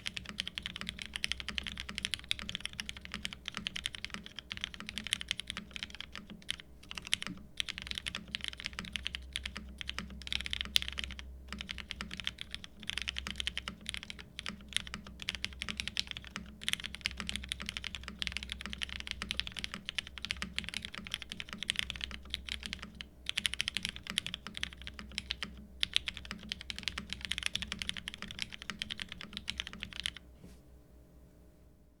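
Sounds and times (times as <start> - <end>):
mechanical keyboard typing: 0.0 - 30.2.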